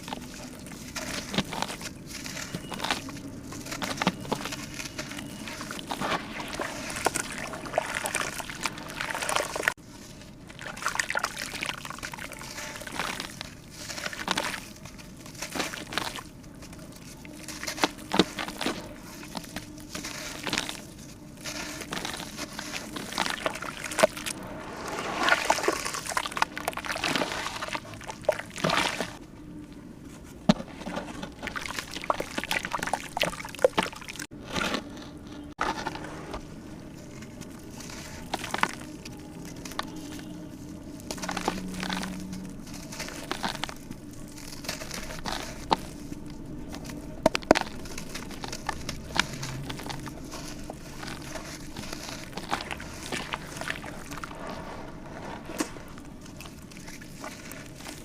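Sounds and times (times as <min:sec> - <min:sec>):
water sloshing and pouring: 0:00.0 - 0:29.8, 0:30.5 - 0:58.0.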